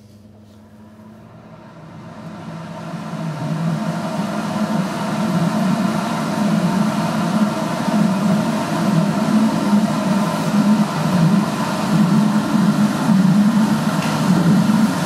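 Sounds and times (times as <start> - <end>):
suction fan humming: 0.0 - 15.0.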